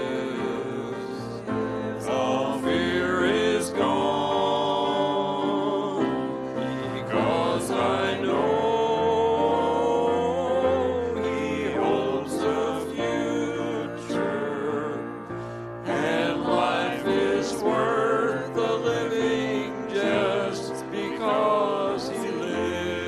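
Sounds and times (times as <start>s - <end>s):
sustained instrumental accompaniment: 0.0s - 23.0s
voices singing a slow hymn: 0.0s - 23.0s.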